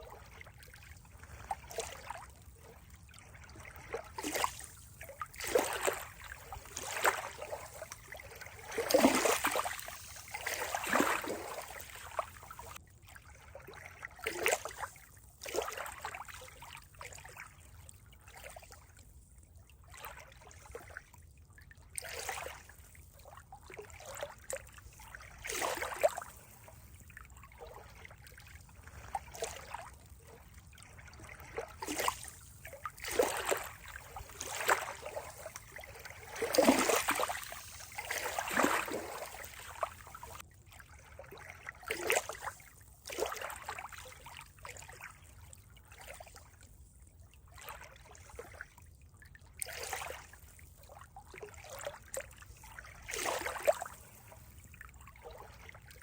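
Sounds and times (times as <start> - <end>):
faint steady water wash: 0.0 - 56.0
water trickling and splashing: 0.0 - 56.0.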